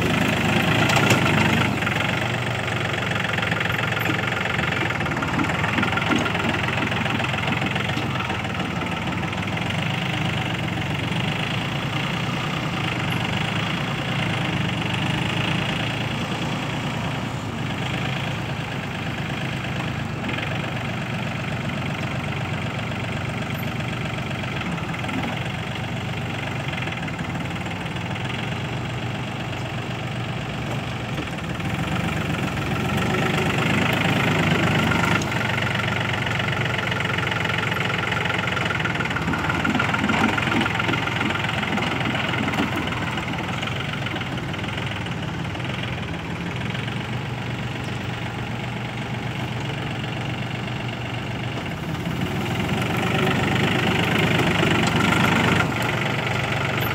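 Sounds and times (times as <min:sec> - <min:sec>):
rotary tiller in soil: 0:00.0 - 0:56.9
tractor diesel engine under load: 0:00.0 - 0:56.9.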